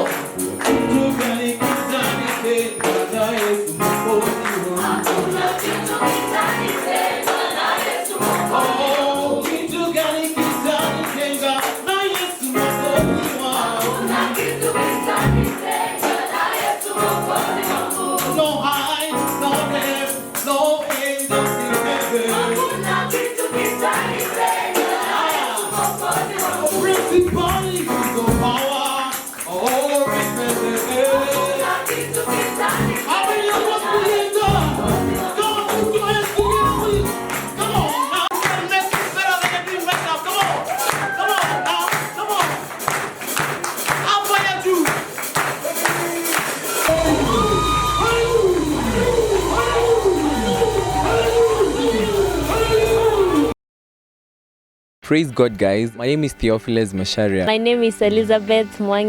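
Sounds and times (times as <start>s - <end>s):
tambourine: 0.0s - 53.5s
choir singing gospel song: 0.0s - 53.6s.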